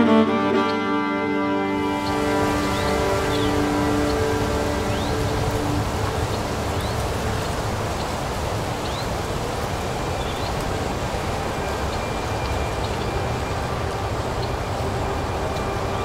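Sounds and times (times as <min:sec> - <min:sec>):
cars driving on city street: 0:01.8 - 0:16.0.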